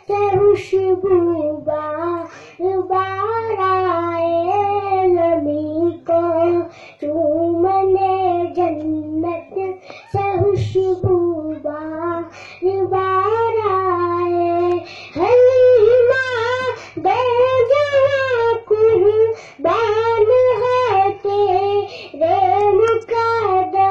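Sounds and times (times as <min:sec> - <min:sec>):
boy singing into a microphone: 0:00.0 - 0:23.9.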